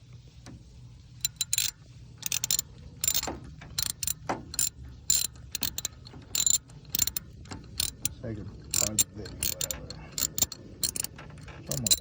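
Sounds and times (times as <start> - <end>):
ratchet wrench clicking: 1.2 - 12.0.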